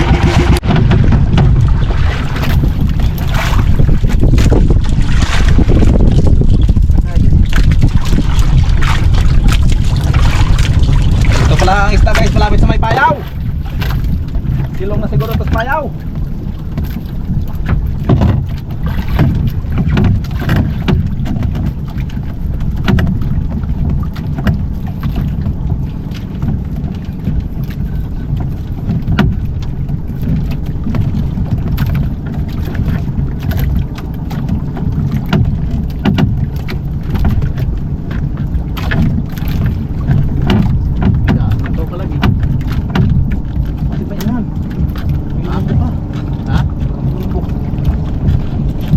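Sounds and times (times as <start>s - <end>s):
knocks and splashes: 0.0s - 48.9s
water washing against boat: 0.0s - 48.9s
wind buffeting microphone: 0.0s - 48.9s.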